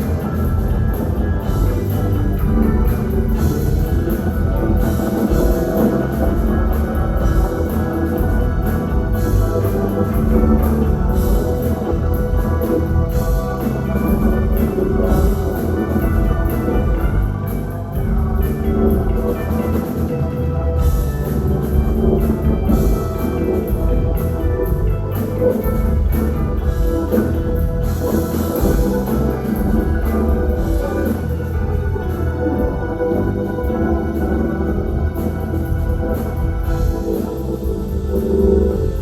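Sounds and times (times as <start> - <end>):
drum kit beat: 0.0 - 39.0
rock band playing: 0.0 - 39.0.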